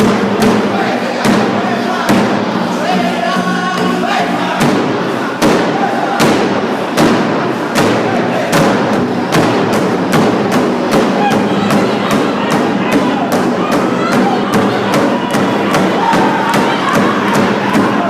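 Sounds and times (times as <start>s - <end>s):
group singing: 0.0s - 9.2s, 11.1s - 18.0s
drum beating steadily: 0.0s - 18.0s.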